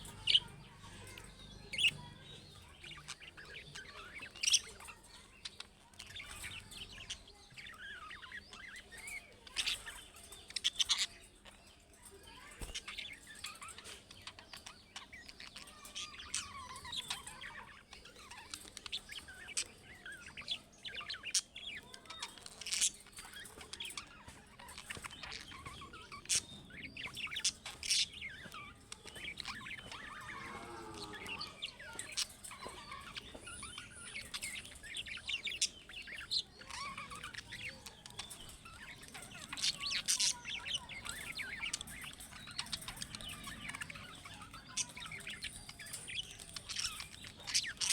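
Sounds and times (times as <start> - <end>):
budgerigars chirping: 0.0 - 47.9.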